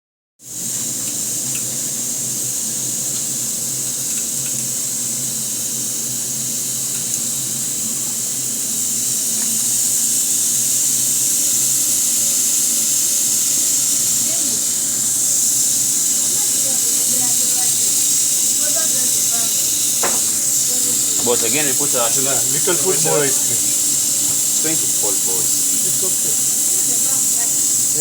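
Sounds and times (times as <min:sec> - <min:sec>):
hot plate sizzling: 0:00.4 - 0:28.0.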